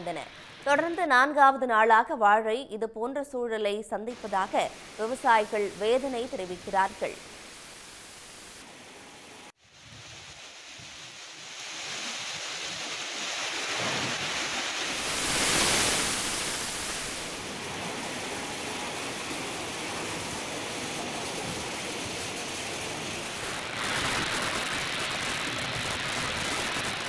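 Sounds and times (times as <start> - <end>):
heavy rain in strong wind: 4.2 - 27.0.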